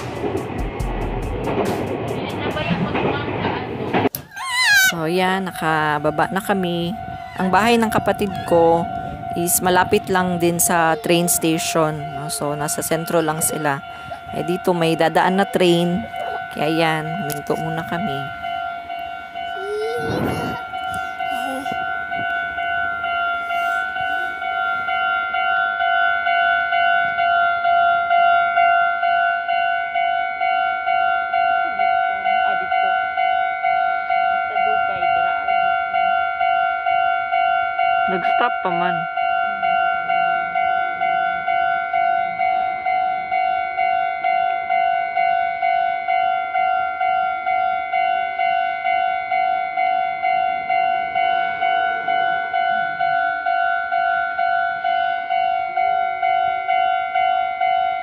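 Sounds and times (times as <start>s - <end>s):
level crossing warning bell: 5.1s - 19.9s, 20.6s - 58.0s.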